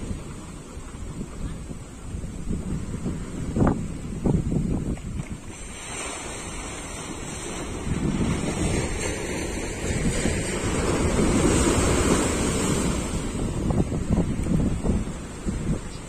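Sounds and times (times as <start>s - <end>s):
surf washing through concrete blocks: 0.0s - 16.0s.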